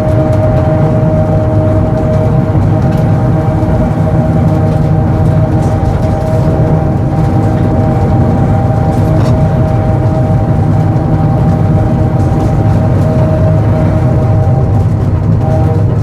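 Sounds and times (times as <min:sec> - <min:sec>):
steady tram whine: 0:00.0 - 0:16.0
tram rumbling: 0:00.0 - 0:16.0.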